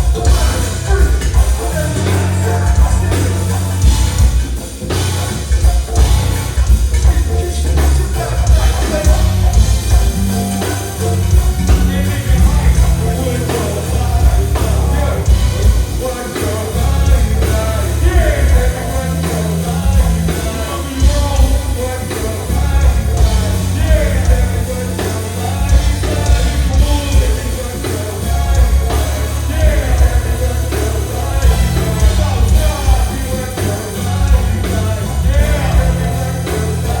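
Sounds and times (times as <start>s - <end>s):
loud music with pulsing bass: 0.0s - 37.0s
person singing: 0.0s - 37.0s.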